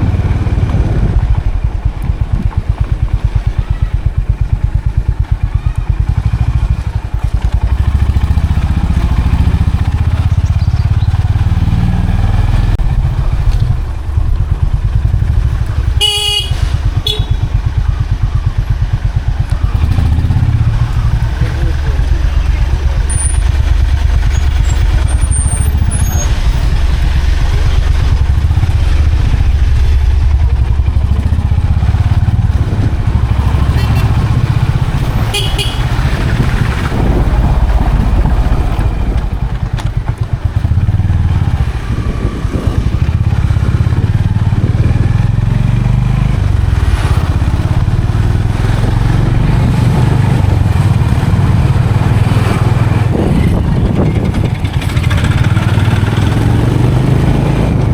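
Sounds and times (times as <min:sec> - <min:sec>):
motorcycle engine droning: 0:00.0 - 0:57.9.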